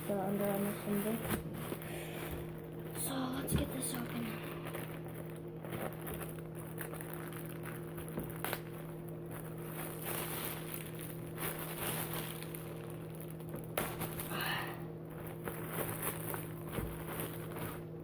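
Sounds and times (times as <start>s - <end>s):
plastic packaging crinkling: 0.0s - 18.0s
steady low hum: 0.0s - 18.0s.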